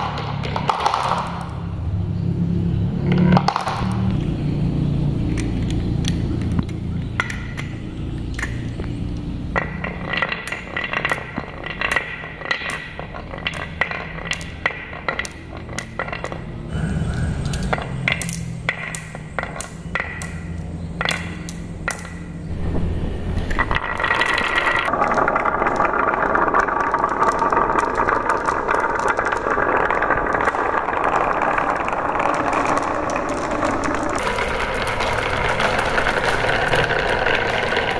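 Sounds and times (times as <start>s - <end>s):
loud steady noise: 0.0s - 25.0s, 27.8s - 37.9s
marbles clicking: 0.0s - 37.9s
marbles rolling on wooden track: 0.0s - 37.9s.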